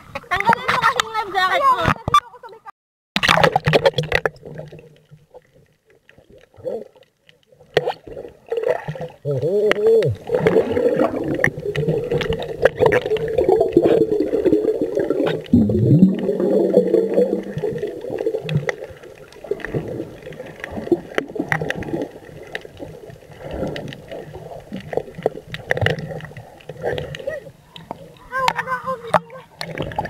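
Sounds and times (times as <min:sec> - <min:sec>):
underwater clicks: 0:03.2 - 0:30.0
underwater water bubbling: 0:03.2 - 0:30.0.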